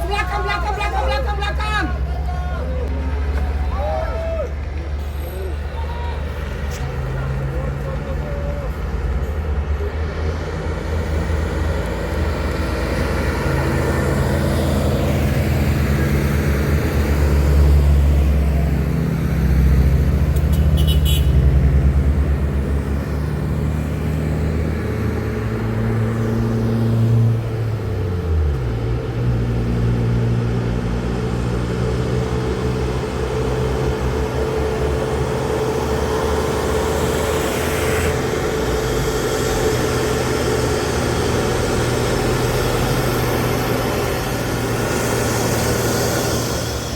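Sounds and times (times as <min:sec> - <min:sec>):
truck diesel engine under load: 0:00.0 - 0:46.9.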